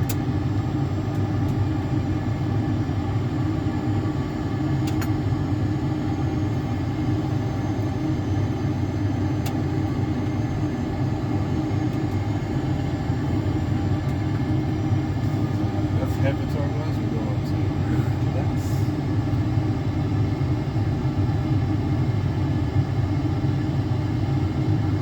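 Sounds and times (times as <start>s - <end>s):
simulated jet engine rumble: 0.0s - 25.0s.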